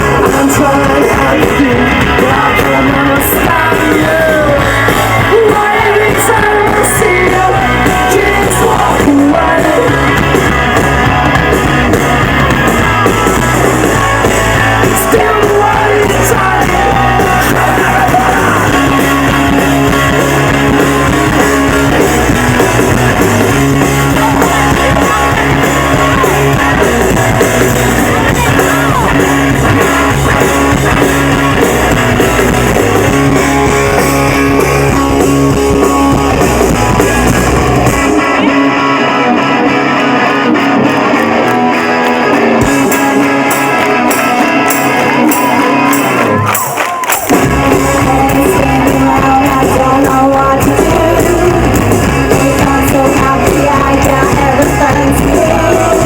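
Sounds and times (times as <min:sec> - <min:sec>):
person singing: 0:00.0 - 0:11.4, 0:12.0 - 0:41.0, 0:42.6 - 0:56.0
bass: 0:00.0 - 0:56.0
drums: 0:00.0 - 0:56.0
electric guitar: 0:00.0 - 0:56.0.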